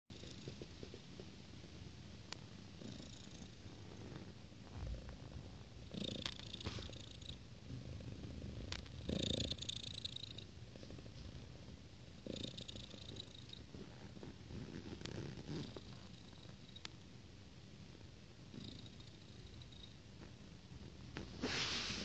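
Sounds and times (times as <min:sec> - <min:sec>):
cat purring: 0:00.1 - 0:17.0, 0:17.7 - 0:22.0.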